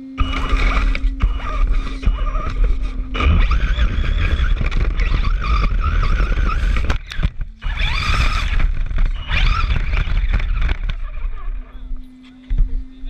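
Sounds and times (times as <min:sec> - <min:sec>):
tyres rumbling on ground: 0:00.0 - 0:12.8
electric motor whine: 0:00.0 - 0:13.0.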